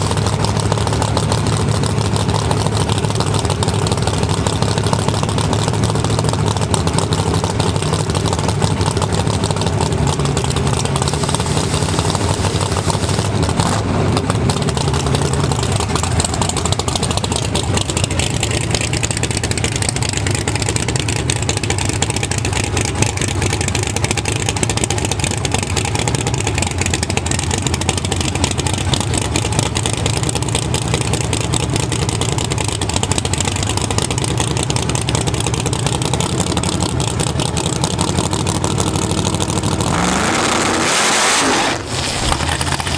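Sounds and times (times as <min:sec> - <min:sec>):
drag-racing engine idling: 0:00.0 - 0:42.9.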